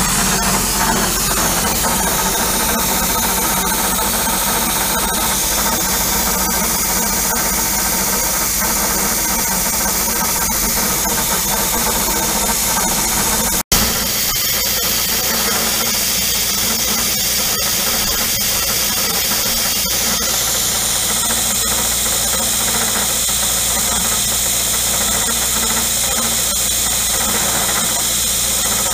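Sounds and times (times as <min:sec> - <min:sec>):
coolant mist hissing: 0:00.0 - 0:28.9
end mill cutting metal: 0:00.0 - 0:28.9.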